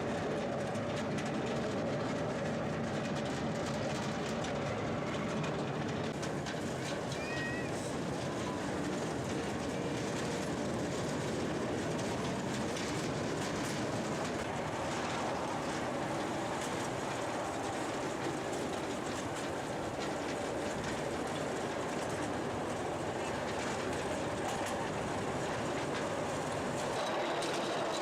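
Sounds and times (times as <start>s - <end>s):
miniature train wheels rumbling on rail: 0.0s - 28.0s.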